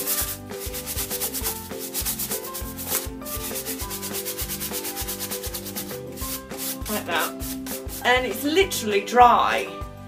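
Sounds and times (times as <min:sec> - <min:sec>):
paintbrush scrubbing cardboard: 0:00.0 - 0:08.4.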